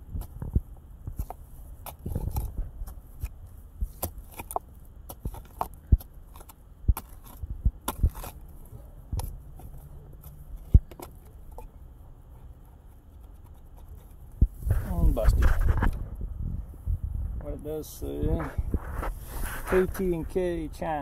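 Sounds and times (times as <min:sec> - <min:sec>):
loose soil crumbling: 0:00.0 - 0:16.2, 0:17.7 - 0:21.0
digging tool scraping dirt: 0:00.1 - 0:11.8, 0:12.5 - 0:16.0, 0:18.2 - 0:21.0.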